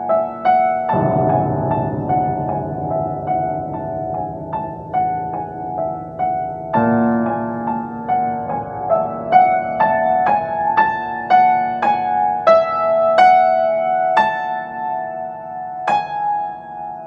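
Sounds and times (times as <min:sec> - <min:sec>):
solo piano playing: 0:00.0 - 0:17.0.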